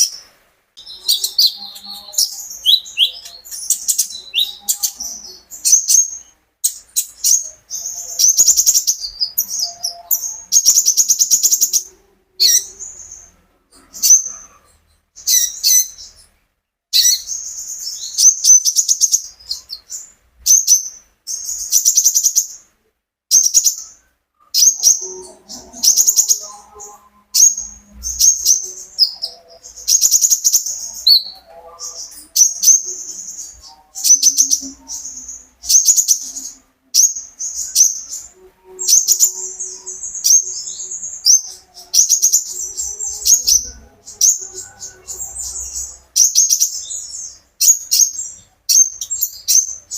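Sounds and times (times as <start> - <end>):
small bird singing chattering phrases: 0.0 - 16.2, 17.0 - 22.6, 23.3 - 24.0, 24.6 - 26.7, 27.4 - 49.9.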